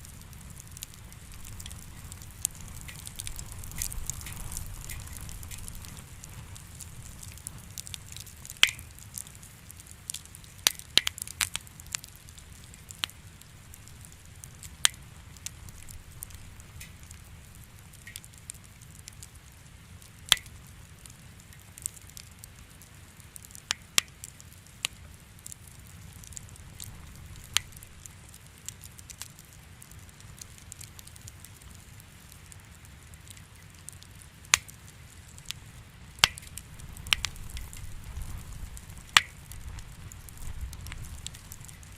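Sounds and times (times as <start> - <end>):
fire crackling with pops: 0.0 - 41.9
low rumble of burning: 0.0 - 41.9.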